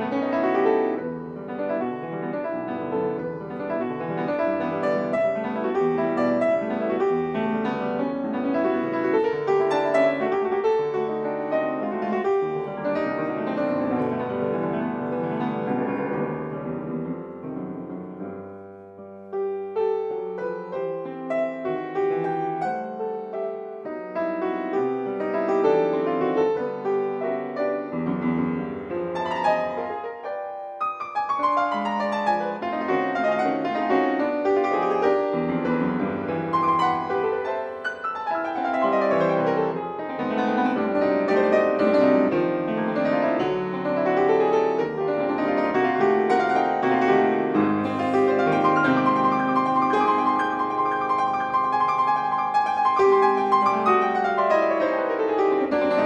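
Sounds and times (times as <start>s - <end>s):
solo classical piano piece: 0.0s - 56.0s.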